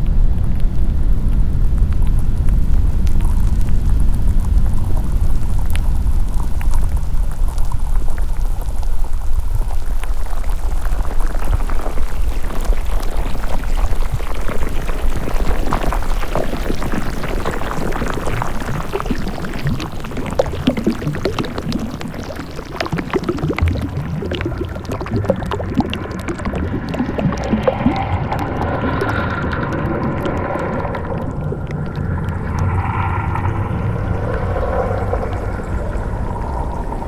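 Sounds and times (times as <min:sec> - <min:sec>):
deep underwater rumble: 0:00.0 - 0:37.0
water bubbling and gurgling: 0:00.0 - 0:37.0.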